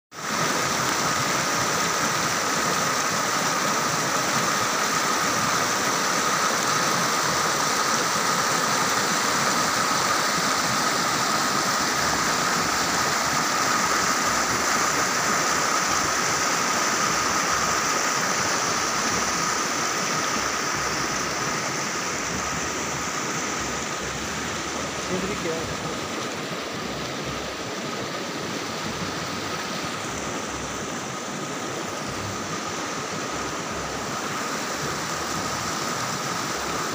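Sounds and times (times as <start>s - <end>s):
stream rushing over rocks: 0.1s - 36.9s.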